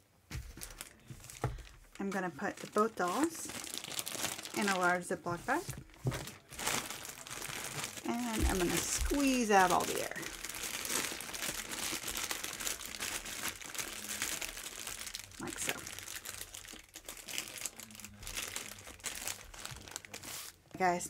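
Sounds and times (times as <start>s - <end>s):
plastic bag crinkling: 0.4s - 21.0s.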